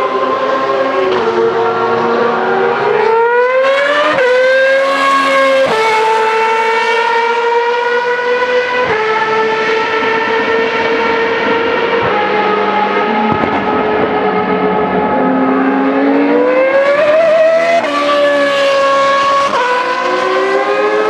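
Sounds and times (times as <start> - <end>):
racing car engine accelerating: 0.0 - 21.0.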